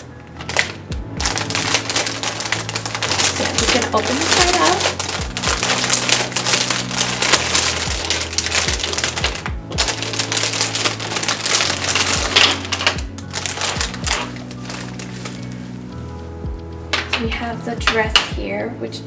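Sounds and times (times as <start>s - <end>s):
packaging crinkling and rustling: 0.0s - 16.2s.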